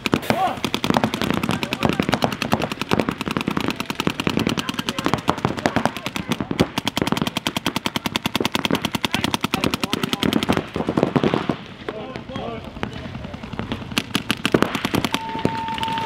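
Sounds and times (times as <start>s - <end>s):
paintball markers firing rapidly: 0.0s - 16.0s.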